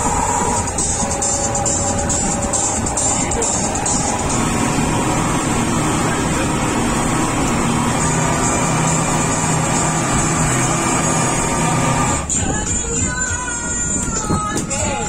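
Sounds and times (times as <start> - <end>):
speedboat engine drone: 0.0 - 12.5.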